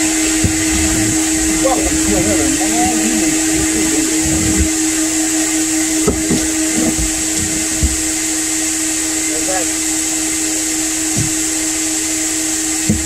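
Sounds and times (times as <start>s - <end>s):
vacuum motor drone: 0.0s - 13.0s.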